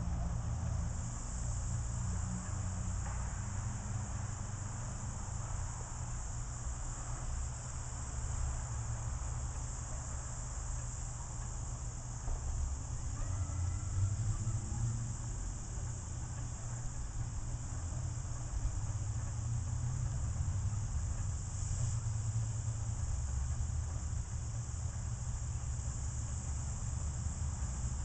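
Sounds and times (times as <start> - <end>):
high-pitched hiss: 0.0 - 28.0.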